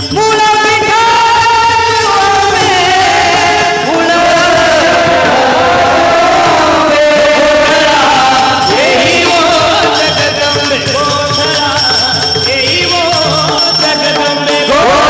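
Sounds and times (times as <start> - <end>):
jingling ringing percussion: 0.0 - 15.0
wavering devotional melody: 0.0 - 15.0.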